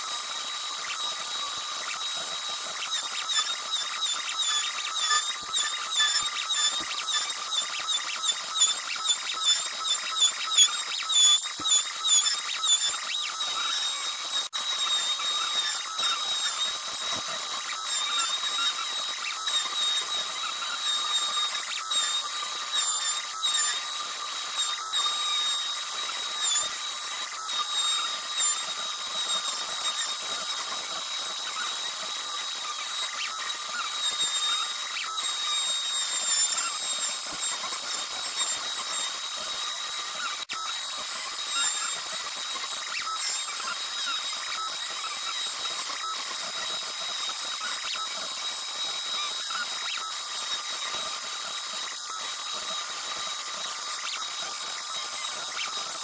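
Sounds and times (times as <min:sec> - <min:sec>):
router spindle whining: 0:00.0 - 0:56.0.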